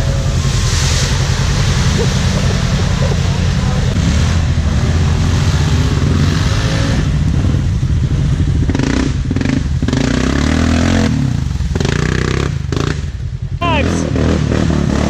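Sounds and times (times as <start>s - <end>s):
vehicle rattling and clatter: 0.0s - 13.6s
off-road vehicle engine revving: 0.0s - 15.0s.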